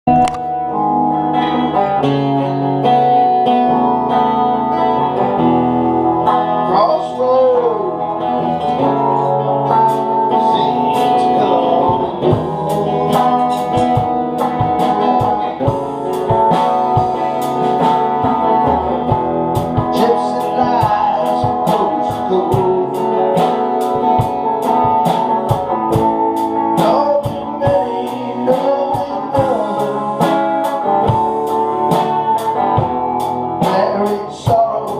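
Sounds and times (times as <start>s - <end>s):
song with guitar and singing: 0.1s - 34.9s
strummed guitar strikes: 0.1s - 34.9s.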